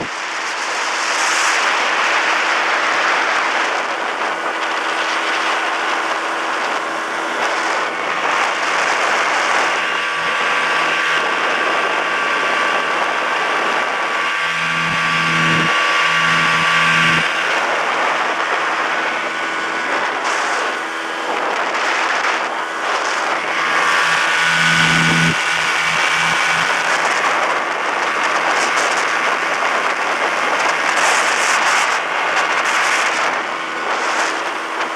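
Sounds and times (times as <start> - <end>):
outboard motor running: 0.0 - 34.9.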